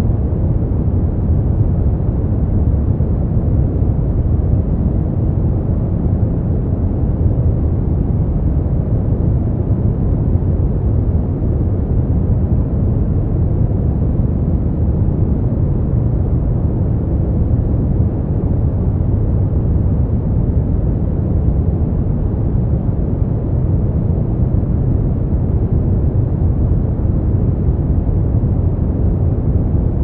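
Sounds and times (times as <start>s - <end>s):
deep rumbling brown noise: 0.0s - 30.0s.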